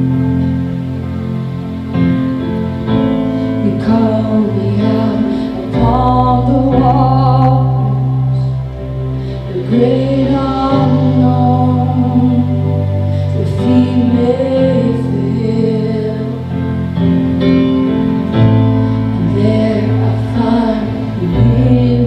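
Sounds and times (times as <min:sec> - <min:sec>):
band playing slow worship song: 0:00.0 - 0:22.0
low bass notes: 0:00.0 - 0:22.0.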